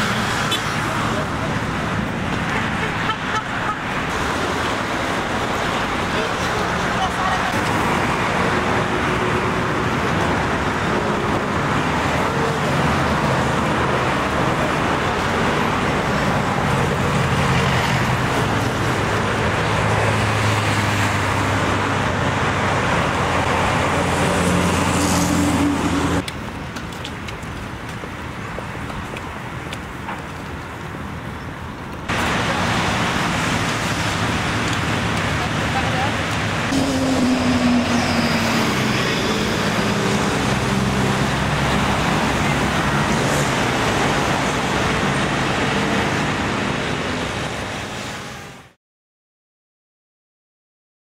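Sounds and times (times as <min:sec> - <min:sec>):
car and bus engines humming: 0:00.0 - 0:48.8.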